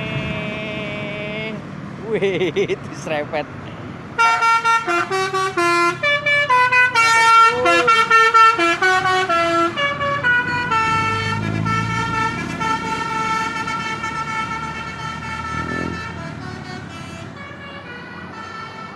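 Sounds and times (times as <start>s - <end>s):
multi-tone bus horn melody: 0.0s - 1.3s, 4.1s - 18.9s
engine rumble: 0.0s - 18.9s.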